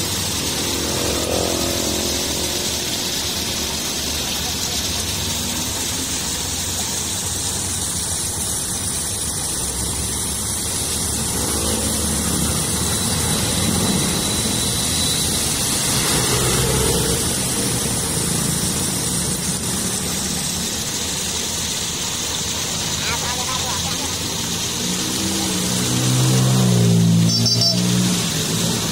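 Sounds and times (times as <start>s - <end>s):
floodwater rushing through culvert: 0.0s - 28.9s
vehicle engine passing: 0.0s - 28.9s.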